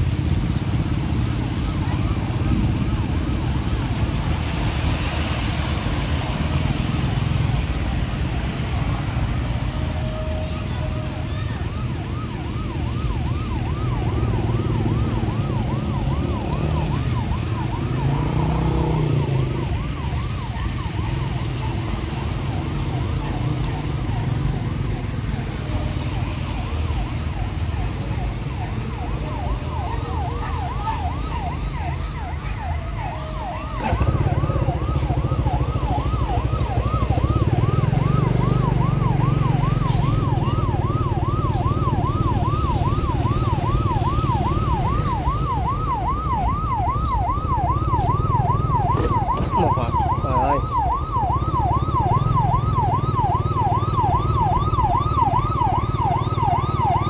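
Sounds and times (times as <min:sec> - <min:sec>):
electronic yelp siren: 0:00.0 - 0:57.0
motorbike rumble through water: 0:00.0 - 0:57.0.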